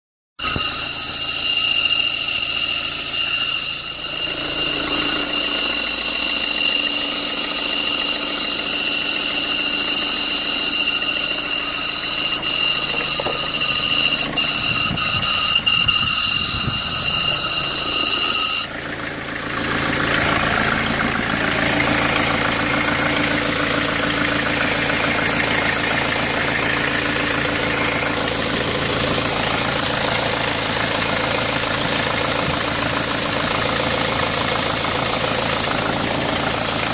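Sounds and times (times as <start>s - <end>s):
high-pitched whine: 0.4s - 36.9s
vehicle engine running: 3.8s - 36.9s.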